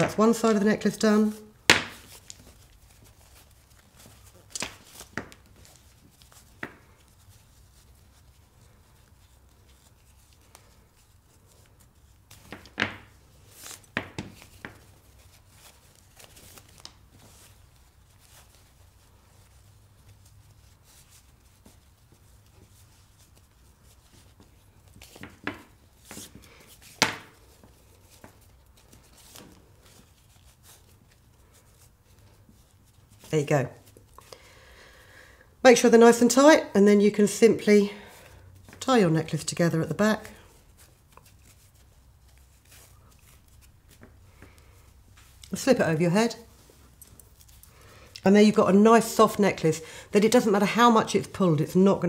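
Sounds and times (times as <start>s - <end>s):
fabric rustling: 0.0s - 34.6s, 35.5s - 52.0s.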